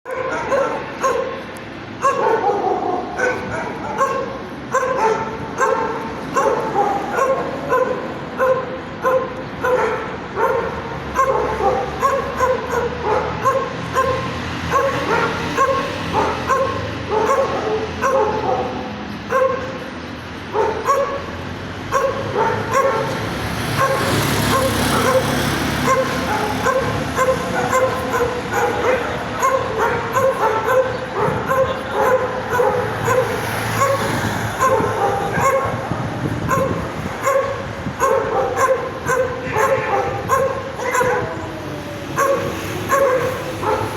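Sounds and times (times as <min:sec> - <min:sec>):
dog yipping: 0:00.1 - 0:01.4, 0:02.0 - 0:19.8, 0:20.5 - 0:43.9.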